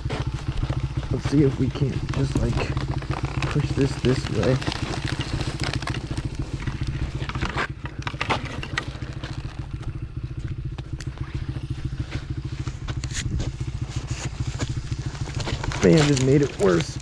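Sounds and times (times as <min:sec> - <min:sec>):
branches cracking and scraping: 0:00.0 - 0:17.0
dirt bike engine idling: 0:00.0 - 0:17.0.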